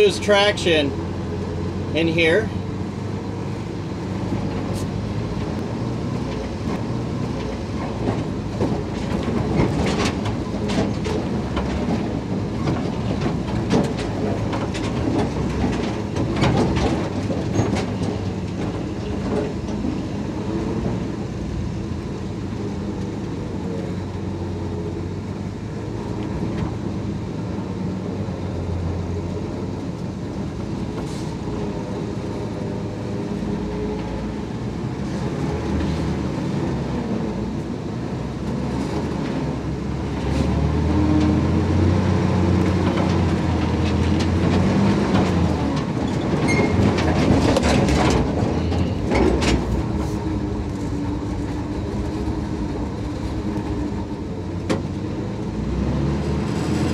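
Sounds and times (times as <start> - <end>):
truck engine running at low revs: 0.0 - 56.9.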